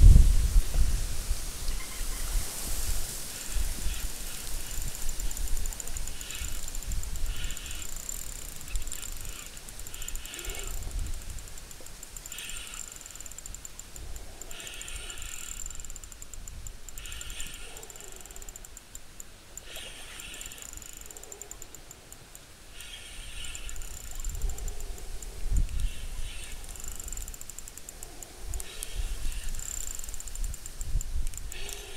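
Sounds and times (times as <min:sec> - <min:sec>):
high insect buzz: 0:01.7 - 0:18.8, 0:19.6 - 0:21.8, 0:22.7 - 0:31.9.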